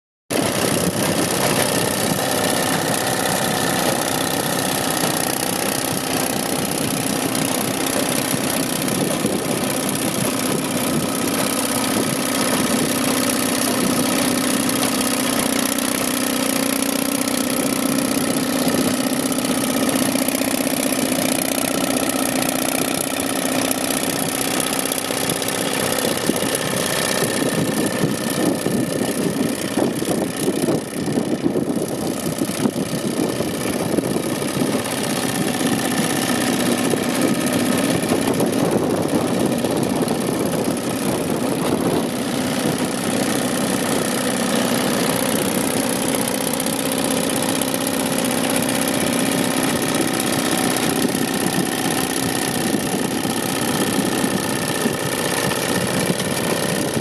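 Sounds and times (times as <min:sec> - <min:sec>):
fast mechanical clatter: 0:00.3 - 0:57.0
tractor and baler engines: 0:00.3 - 0:57.0.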